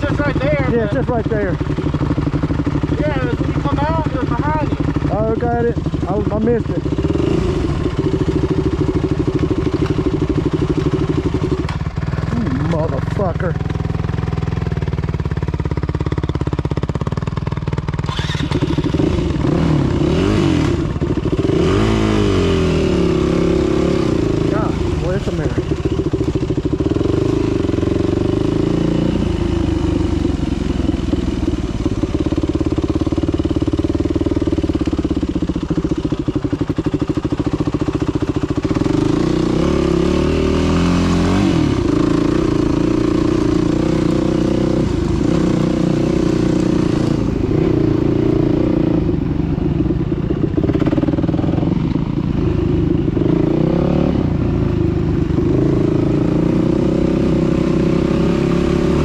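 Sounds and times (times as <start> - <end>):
dirt bike engine revving: 0.0 - 16.3, 17.9 - 59.0.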